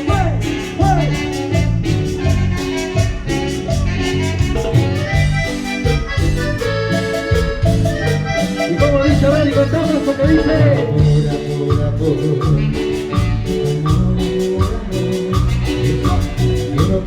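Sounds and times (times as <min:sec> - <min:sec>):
accordion-like lead melody: 0:00.0 - 0:17.0
bass and drums dance beat: 0:00.0 - 0:17.0.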